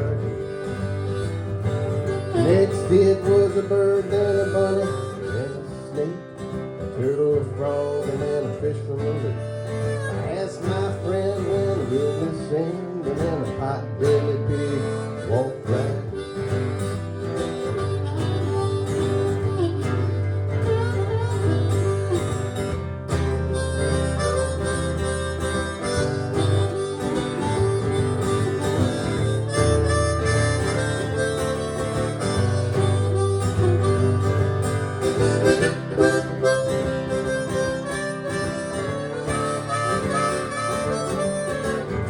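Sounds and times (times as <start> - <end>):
acoustic guitar strumming: 0.0 - 42.0
blues harmonica solo: 0.0 - 42.0.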